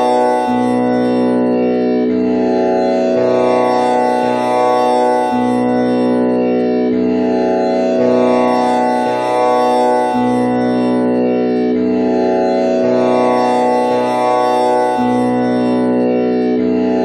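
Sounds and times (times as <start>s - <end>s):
tanpura drone: 0.0s - 17.0s.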